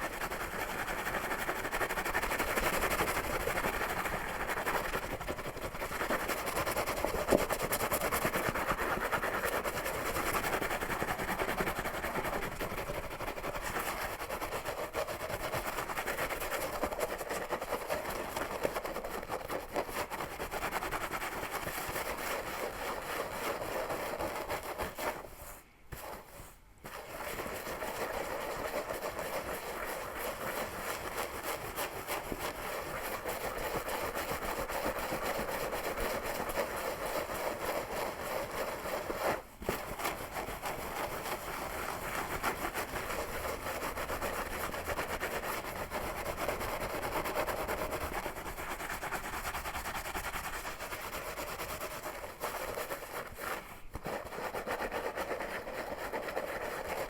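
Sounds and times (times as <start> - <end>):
fingers scratching scalp and hair: 0.0 - 25.4, 26.2 - 57.0.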